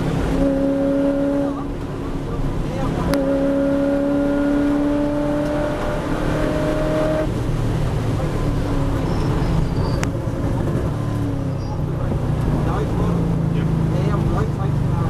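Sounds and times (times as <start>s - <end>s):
low engine rumble while braking: 0.0s - 15.0s
race car engine at high revs: 0.0s - 15.0s.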